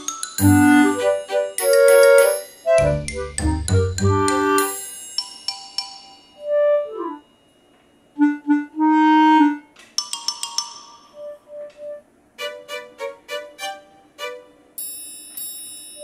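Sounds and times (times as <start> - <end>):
background music melody: 0.0 - 16.0.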